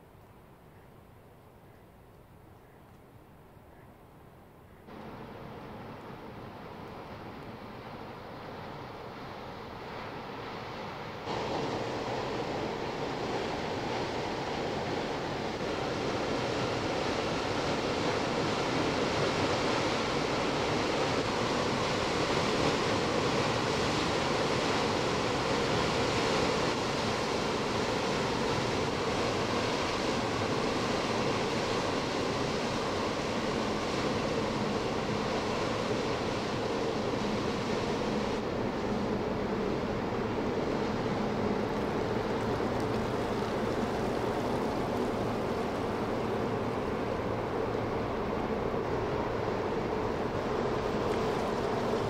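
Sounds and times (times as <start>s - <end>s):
water rushing and splashing: 4.9s - 52.0s.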